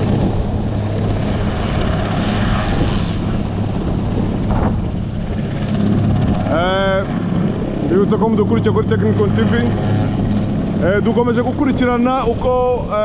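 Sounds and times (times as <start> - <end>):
helicopter engines and rotor humming: 0.0 - 13.0.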